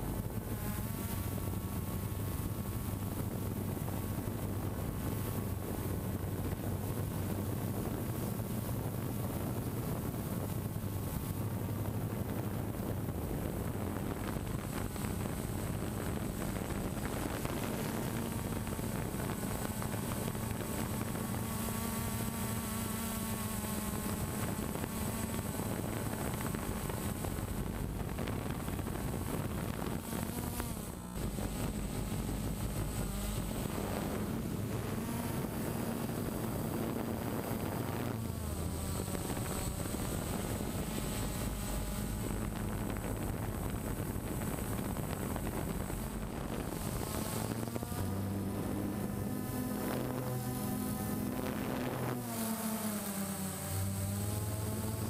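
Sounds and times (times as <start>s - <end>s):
drone propellers buzzing: 0.0s - 55.0s
wind on microphone: 0.0s - 55.0s.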